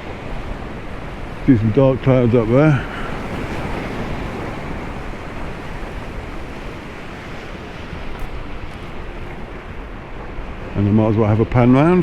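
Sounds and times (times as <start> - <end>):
sea waves breaking: 0.0 - 12.0
wind buffeting microphone: 0.0 - 12.0.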